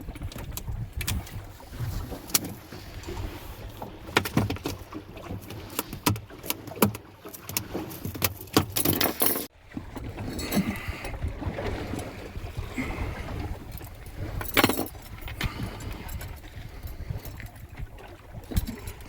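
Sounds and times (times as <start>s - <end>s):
gear knocking and rattling in boat: 0.0s - 19.0s.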